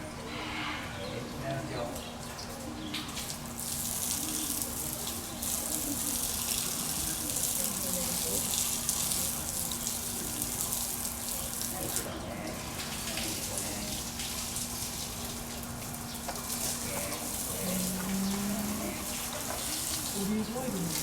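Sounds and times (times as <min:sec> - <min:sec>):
water running: 0:03.0 - 0:21.0.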